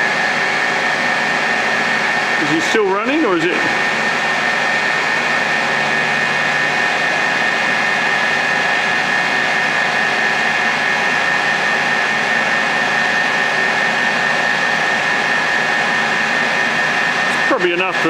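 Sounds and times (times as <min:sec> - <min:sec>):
milling machine running with whine: 0:00.0 - 0:18.0.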